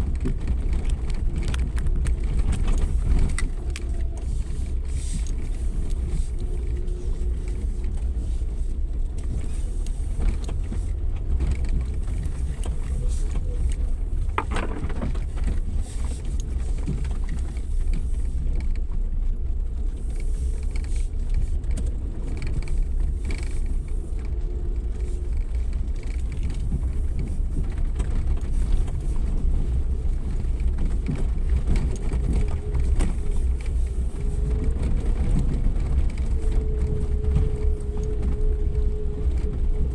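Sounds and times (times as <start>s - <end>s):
engine and drivetrain rumble: 0.0s - 39.9s
tyres running over rough ground: 0.0s - 39.9s.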